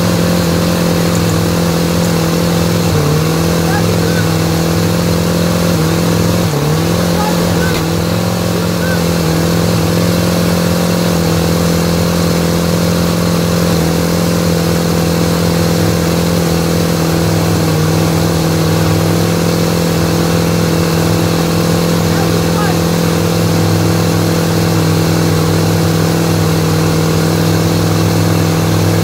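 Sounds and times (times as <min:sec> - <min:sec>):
boat engine running rough: 0:00.0 - 0:29.0.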